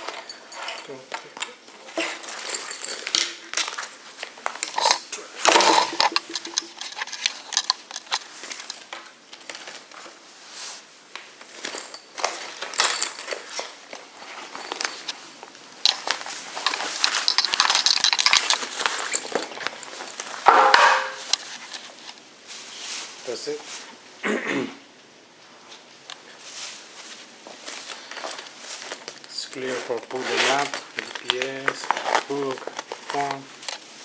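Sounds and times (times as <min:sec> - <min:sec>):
packaging and fabric rustling: 0:01.5 - 0:24.0, 0:26.2 - 0:34.0.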